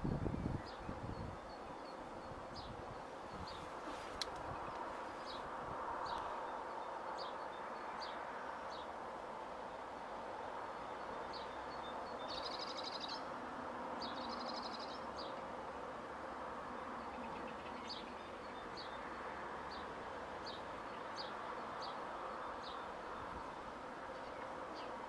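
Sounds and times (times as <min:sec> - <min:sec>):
birds chirping: 0:00.0 - 0:09.0, 0:09.6 - 0:13.3, 0:14.0 - 0:15.5, 0:16.7 - 0:25.0.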